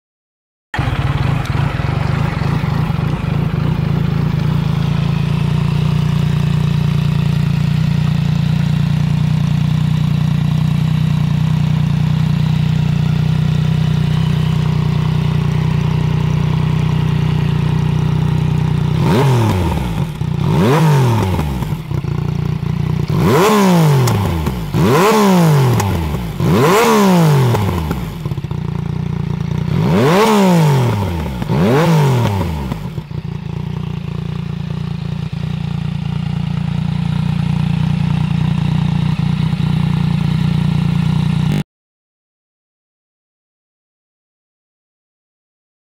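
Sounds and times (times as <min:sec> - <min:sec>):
motorcycle engine idling: 0:00.8 - 0:41.6
motorcycle throttle blips: 0:00.8 - 0:41.6.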